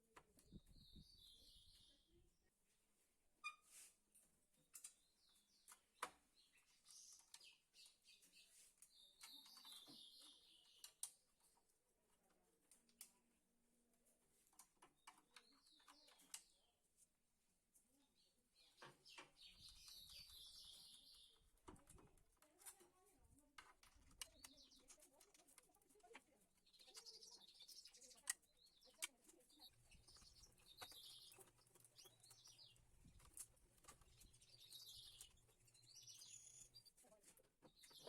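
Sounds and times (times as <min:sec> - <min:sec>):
faint bird chirping: 0:00.4 - 0:02.5, 0:04.6 - 0:12.5, 0:14.8 - 0:16.9, 0:17.9 - 0:38.0.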